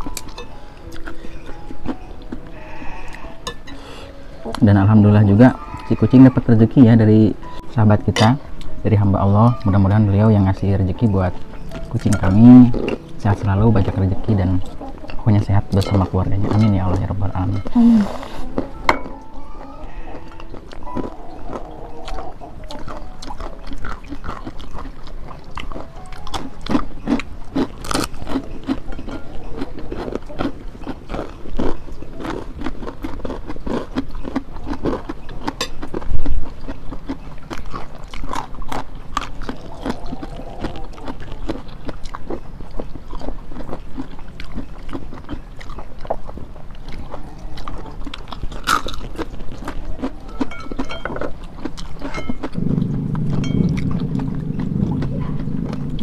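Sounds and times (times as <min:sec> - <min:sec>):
chewing and crunching crackers: 0:00.0 - 0:07.9, 0:08.6 - 0:56.0.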